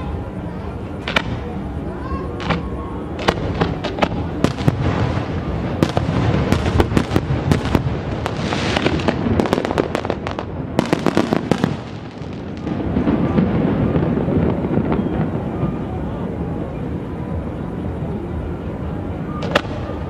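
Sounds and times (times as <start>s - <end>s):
fireworks cracks and bangs: 0.0s - 18.1s, 19.3s - 20.0s
continuous rumble: 0.0s - 20.0s.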